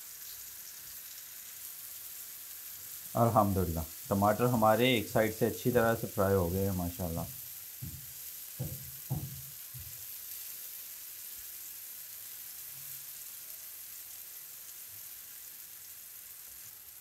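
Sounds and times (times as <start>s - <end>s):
tomato slices sizzling in oil: 0.0s - 17.0s.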